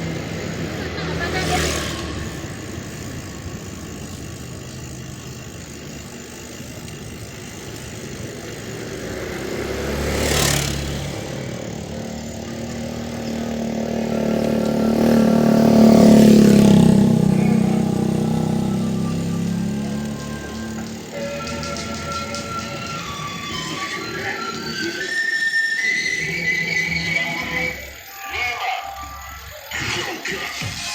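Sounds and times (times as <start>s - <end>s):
motor vehicles passing close: 0.0s - 28.2s.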